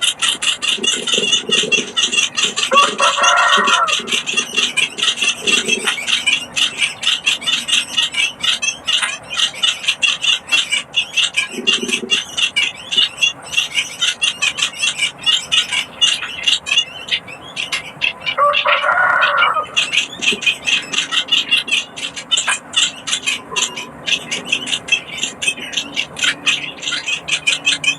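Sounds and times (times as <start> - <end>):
chicks chirping: 0.0 - 27.9.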